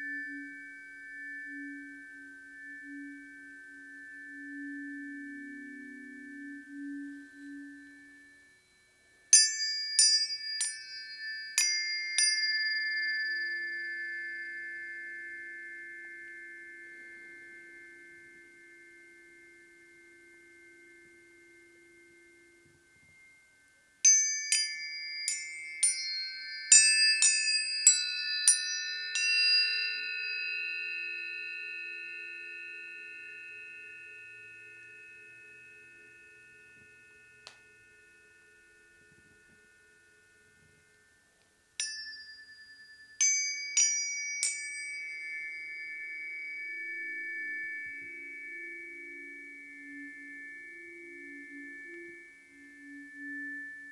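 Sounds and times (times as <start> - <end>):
low tuning fork tone: 0.0 - 53.9
tuning forks struck and ringing: 0.0 - 53.9.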